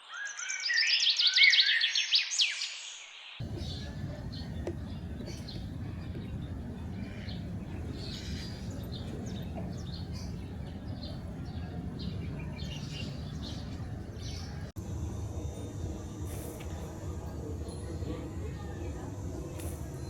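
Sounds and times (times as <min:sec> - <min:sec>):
low background rumble: 0:03.4 - 0:20.0
small birds chirping: 0:03.4 - 0:20.0.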